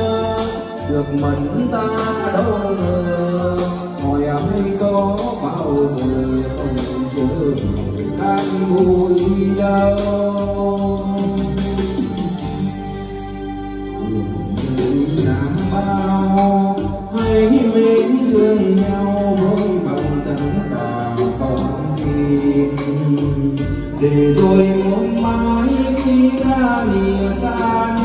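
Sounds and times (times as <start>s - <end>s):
man singing into microphone: 0.0s - 13.3s, 14.0s - 28.0s
karaoke backing track: 0.0s - 28.0s.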